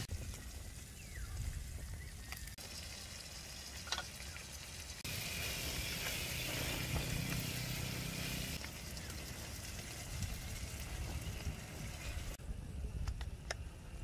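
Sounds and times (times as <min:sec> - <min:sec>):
chicken sizzling in a pan: 0:00.0 - 0:12.4.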